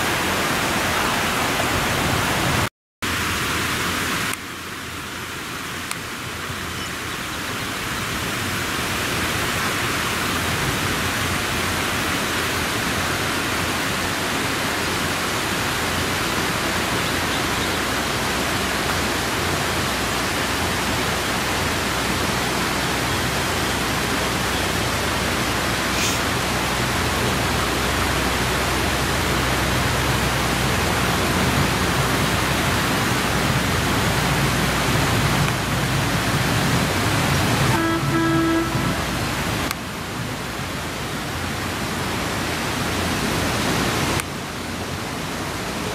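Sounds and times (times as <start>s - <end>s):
steady rushing noise: 0.0s - 45.9s.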